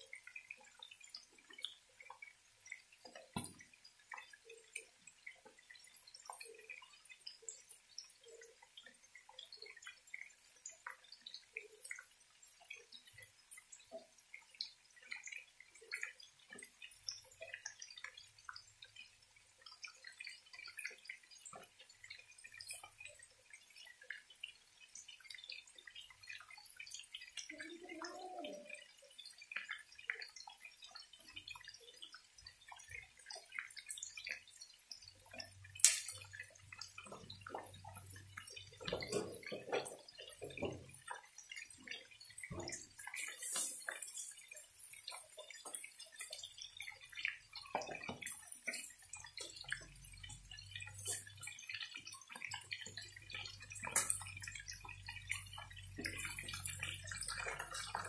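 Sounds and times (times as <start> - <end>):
food frying in oil: 0.0 - 58.0
oil popping and crackling: 0.1 - 58.0.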